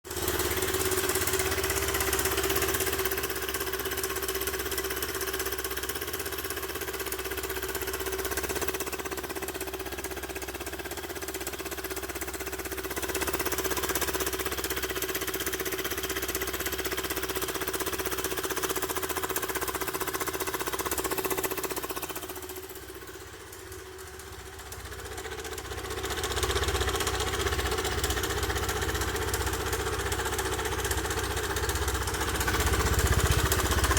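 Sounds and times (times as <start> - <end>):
scooter engine running with rattle: 0.0 - 33.9.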